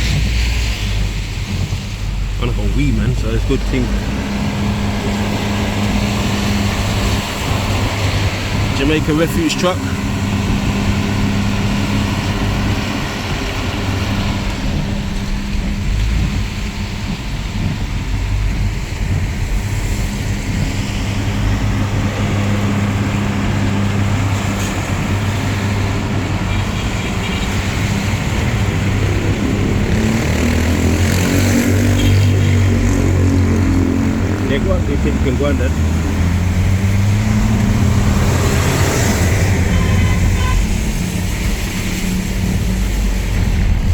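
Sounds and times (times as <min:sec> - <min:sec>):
road noise: 0:00.0 - 0:43.9
vehicle engine humming: 0:00.0 - 0:43.9.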